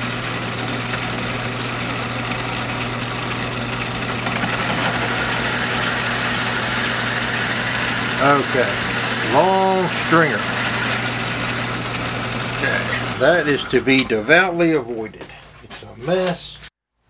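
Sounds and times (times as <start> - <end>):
lathe cutting metal: 0.0 - 15.0
metal lathe running: 0.0 - 15.0.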